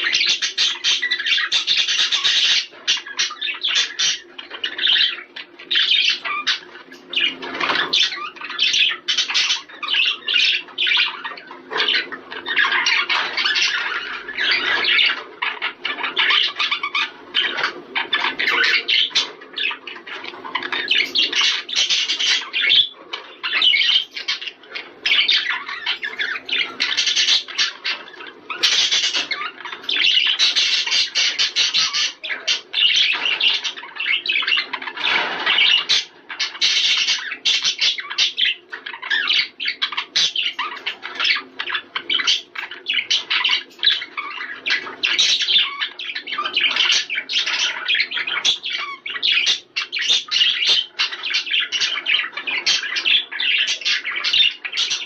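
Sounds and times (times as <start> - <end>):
budgerigars chattering and warbling: 0.0 - 55.0.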